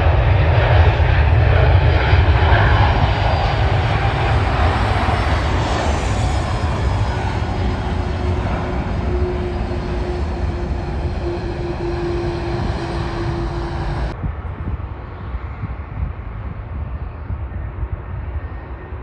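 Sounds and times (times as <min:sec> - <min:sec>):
jet airliner engine noise: 0:00.0 - 0:19.0.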